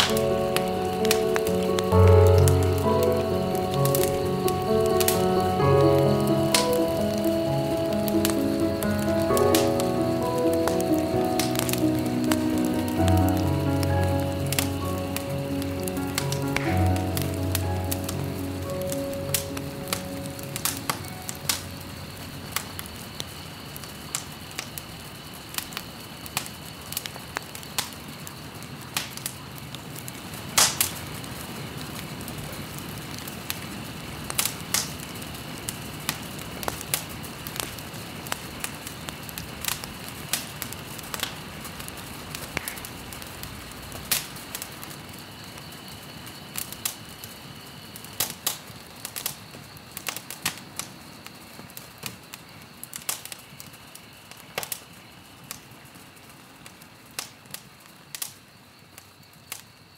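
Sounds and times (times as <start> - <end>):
sharp crackles and ticks: 0.0 - 47.4, 48.0 - 59.7
steady hiss: 0.0 - 59.8.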